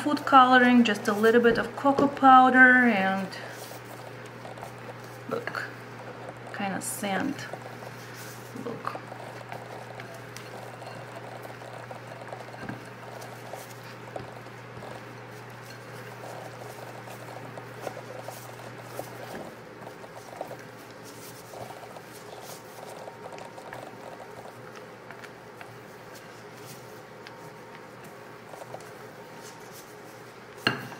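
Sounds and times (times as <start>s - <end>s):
spatula squishing thick batter: 0.0s - 30.6s.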